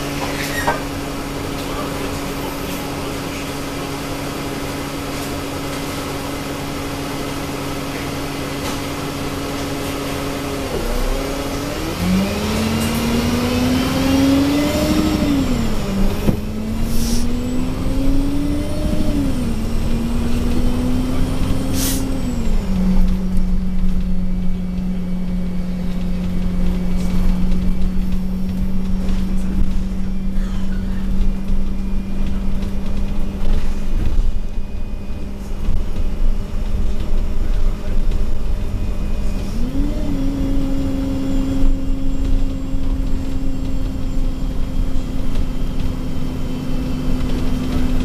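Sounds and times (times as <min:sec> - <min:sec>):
bus engine idling: 0:00.0 - 0:48.0
bus gearbox whine: 0:00.0 - 0:48.0.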